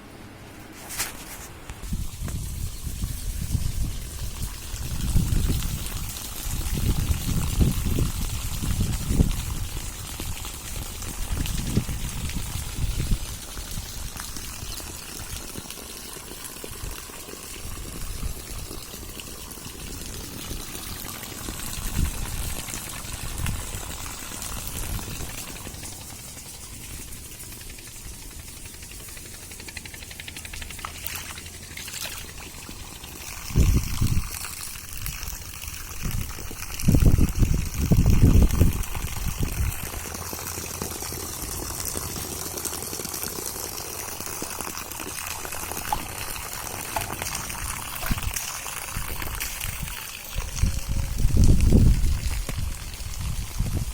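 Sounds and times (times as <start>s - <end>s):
heavy rain and running water: 1.9s - 26.2s, 30.9s - 53.9s.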